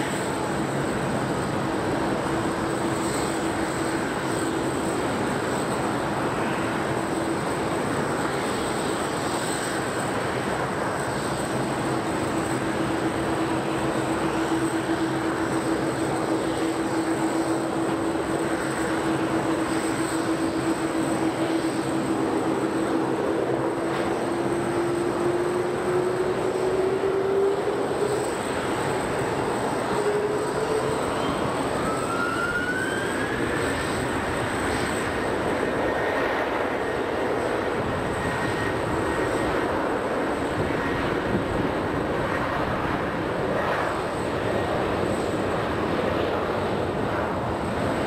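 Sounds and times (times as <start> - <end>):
broad rushing roar: 0.0 - 48.0
jet turbine whine: 0.0 - 48.0.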